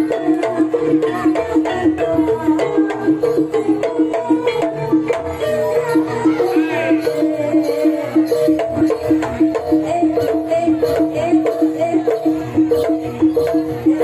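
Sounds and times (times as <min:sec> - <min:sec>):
pitched metal notes: 0:00.0 - 0:14.0.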